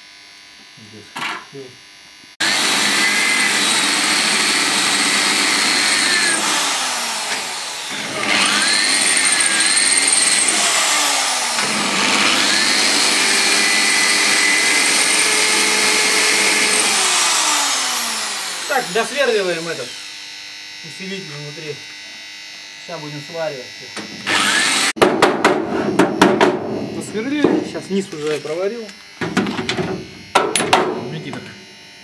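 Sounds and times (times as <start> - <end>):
electric drill boring through steel: 2.4 - 25.0, 25.8 - 31.6.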